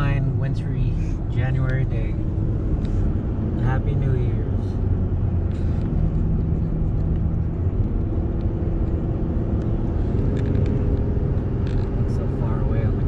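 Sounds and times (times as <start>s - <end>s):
car engine hum: 0.0s - 13.0s
tyre and road rumble: 0.0s - 13.0s.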